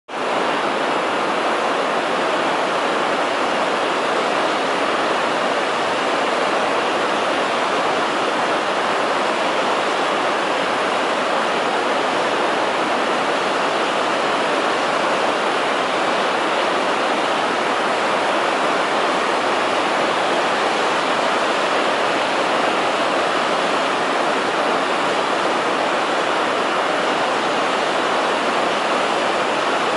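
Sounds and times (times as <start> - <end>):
river rushing over boulders: 0.1 - 29.9.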